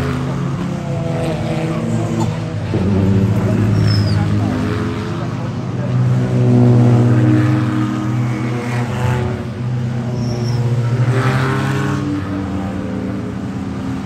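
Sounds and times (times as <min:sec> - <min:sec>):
race cars driving past: 0:00.0 - 0:14.0.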